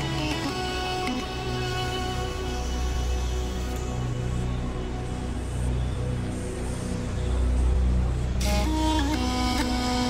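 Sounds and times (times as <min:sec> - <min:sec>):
music with low bass: 0:00.0 - 0:10.0.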